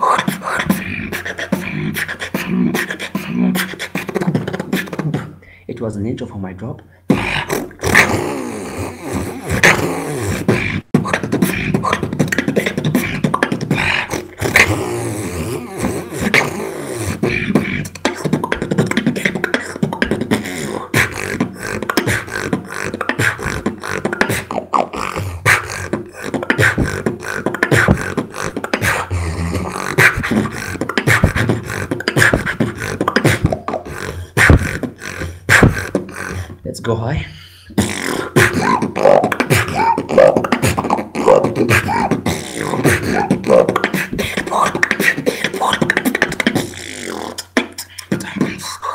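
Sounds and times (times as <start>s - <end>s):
beatboxing: 0.0s - 48.9s.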